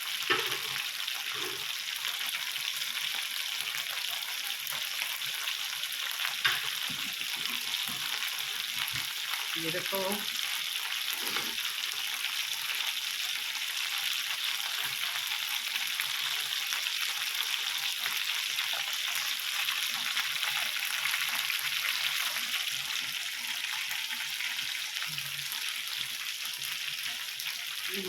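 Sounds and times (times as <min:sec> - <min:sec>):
meat sizzling on electric grill: 0:00.0 - 0:28.0.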